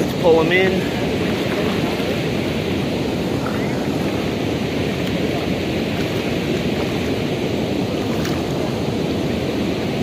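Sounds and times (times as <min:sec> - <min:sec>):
river flowing over rocks: 0:00.1 - 0:10.0.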